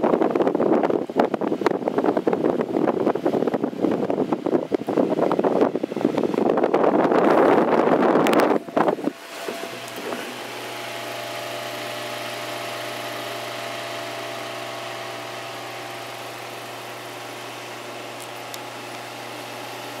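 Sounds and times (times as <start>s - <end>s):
desk fan whirring: 0.0s - 20.0s.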